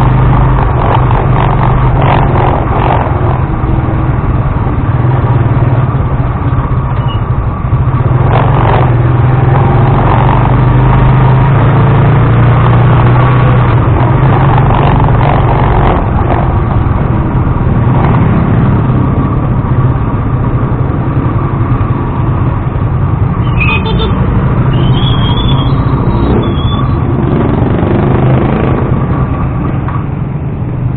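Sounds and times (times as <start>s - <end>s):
motor tricycle engine drone: 0.0s - 30.9s
road and vibration noise: 0.0s - 30.9s.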